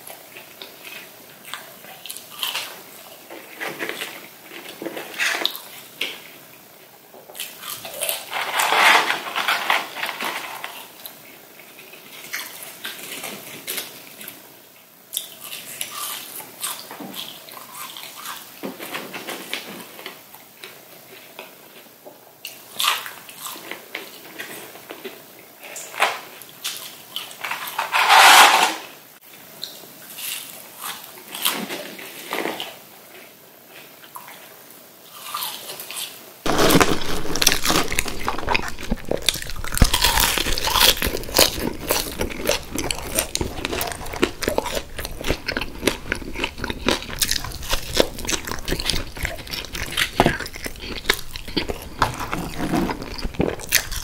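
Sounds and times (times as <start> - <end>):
chewing and crunching food: 0.0 - 6.4, 7.1 - 14.4, 15.1 - 27.8, 29.6 - 54.0.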